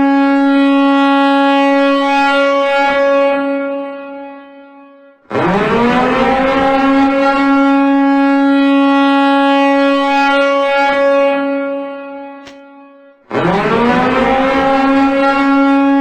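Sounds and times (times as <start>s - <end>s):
siren-like alarm tone: 0.0s - 16.0s.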